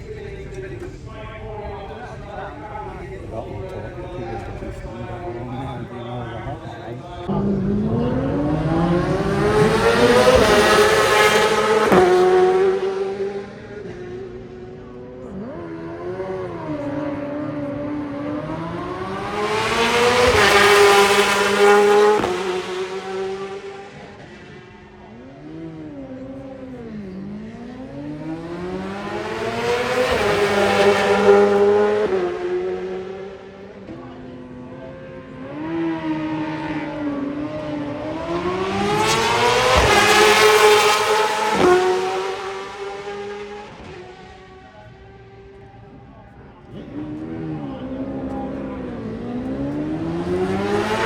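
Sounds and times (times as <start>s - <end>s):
race motorcycle passing at full throttle: 3.3s - 46.1s, 46.7s - 51.0s
superbike engine at high revs: 7.2s - 46.0s, 46.7s - 51.0s.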